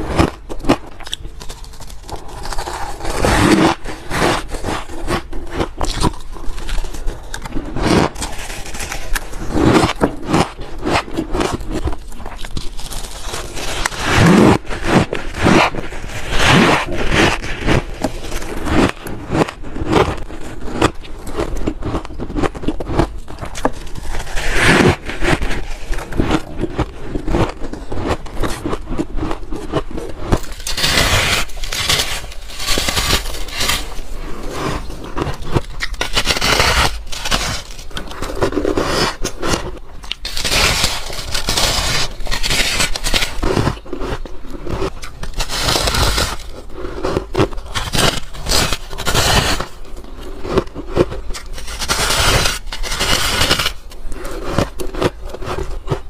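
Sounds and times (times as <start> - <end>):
chewing crunchy frost: 0.0 - 56.0
fingers scraping frost: 2.2 - 21.0, 29.7 - 56.0.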